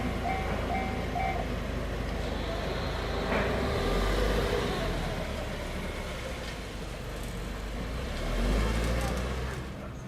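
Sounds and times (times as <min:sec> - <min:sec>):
road vehicle engines rumbling: 0:00.0 - 0:10.0.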